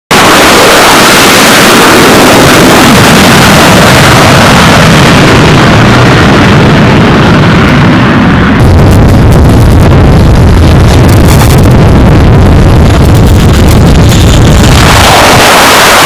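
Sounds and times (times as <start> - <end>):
deep rumble: 0.1 - 16.0
fighter jet engines roaring: 0.1 - 16.0.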